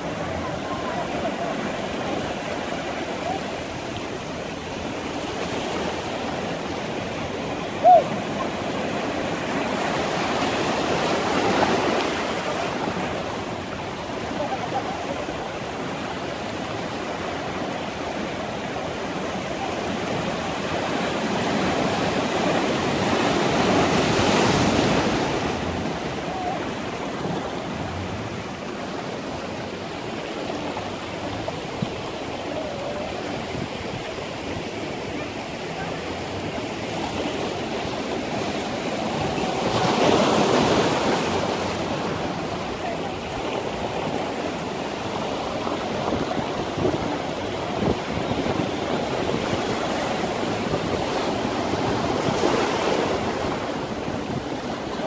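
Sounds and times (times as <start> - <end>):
ocean surf breaking over rocks: 0.0 - 55.0.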